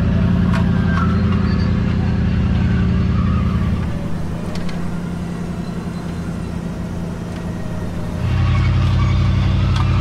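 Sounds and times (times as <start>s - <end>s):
vehicle engine humming: 1.9s - 10.0s.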